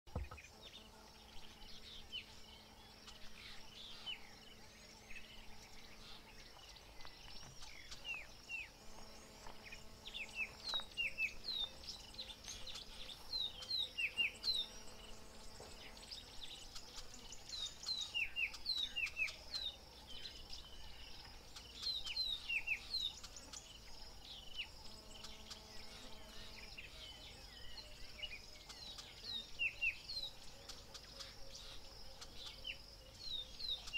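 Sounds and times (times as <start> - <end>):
insect drone: 0.1 - 33.9.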